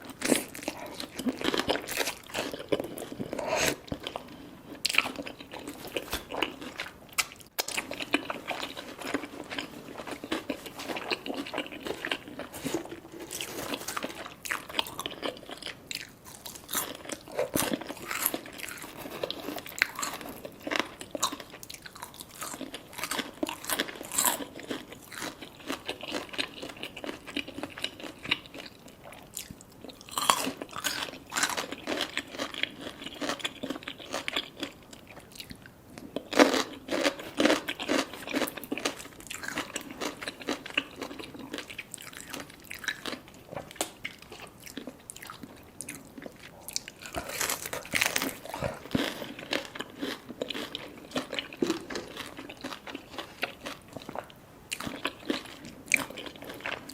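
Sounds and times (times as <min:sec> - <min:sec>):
crunching fried food: 0:00.0 - 0:56.9.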